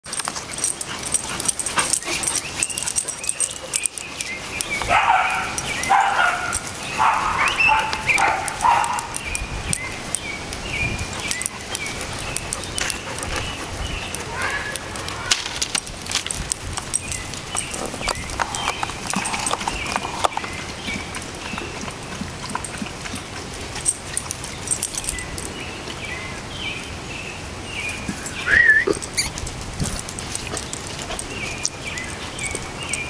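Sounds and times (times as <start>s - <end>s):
dogs play barking: 0.1s - 25.6s, 27.8s - 33.0s.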